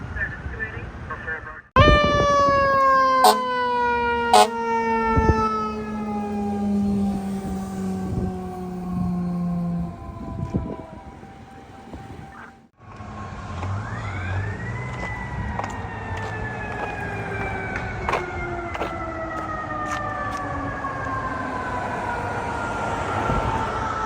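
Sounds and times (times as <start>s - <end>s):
truck engine rumble: 0.0s - 24.0s.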